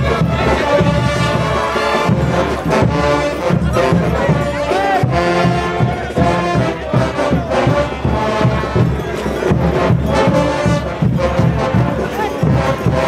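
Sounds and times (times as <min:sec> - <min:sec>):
brass horns sustained chords: 0:00.0 - 0:13.0
steady drum beat: 0:00.0 - 0:13.0.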